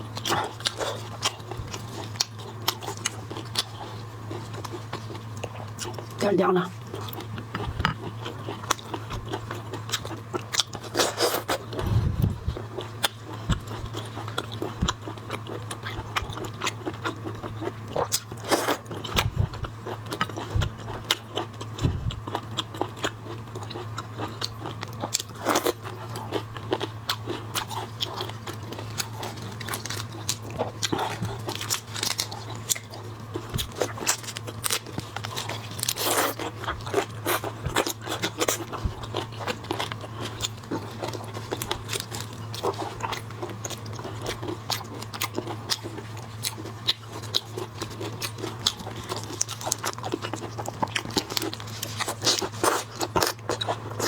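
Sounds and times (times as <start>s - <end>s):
chewing with crunches: 0.0s - 54.0s
steady low hum: 0.0s - 54.0s.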